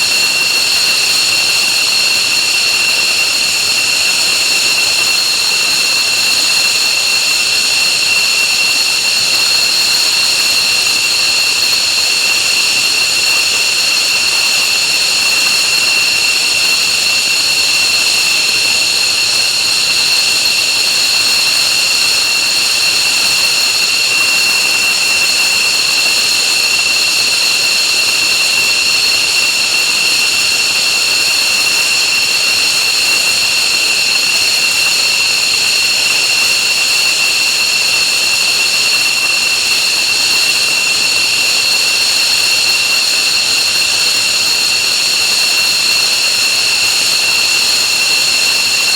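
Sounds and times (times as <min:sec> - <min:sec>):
jet engine whine and roar: 0:00.0 - 0:48.9.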